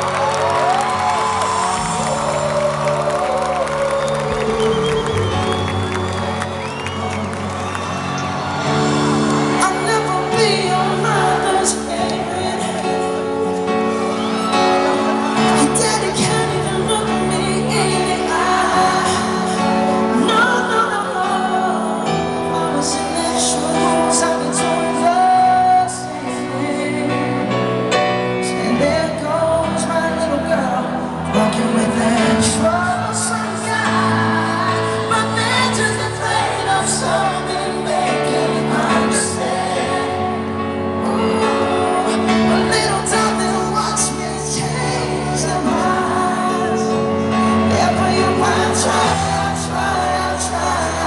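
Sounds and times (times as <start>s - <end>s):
person singing: 0.0s - 6.6s, 8.2s - 51.0s.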